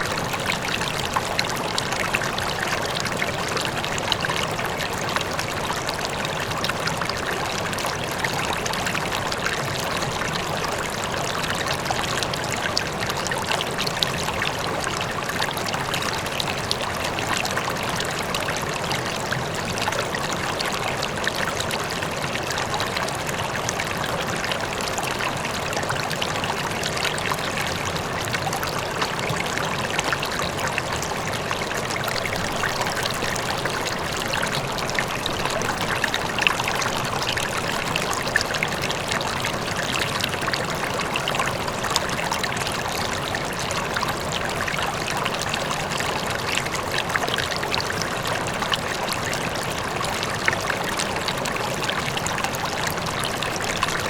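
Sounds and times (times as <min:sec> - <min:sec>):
river water over rocks: 0:00.0 - 0:54.0
waterfall: 0:00.0 - 0:54.0.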